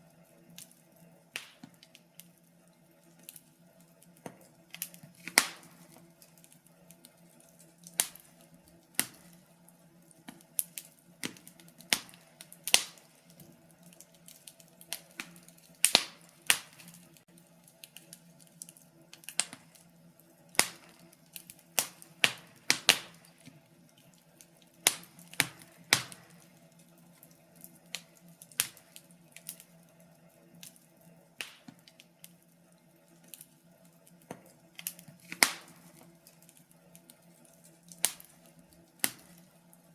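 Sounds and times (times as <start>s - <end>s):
faint steady low hum: 0.0s - 39.9s
wood fire crackling: 0.0s - 39.9s.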